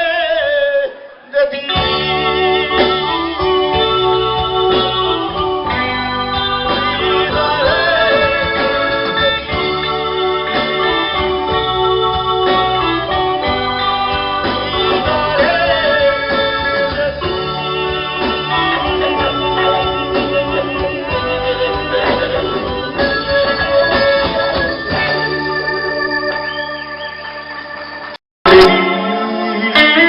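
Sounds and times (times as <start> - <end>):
cumbia band music: 0.0 - 30.0
electronic organ keyboard melody: 1.7 - 30.0.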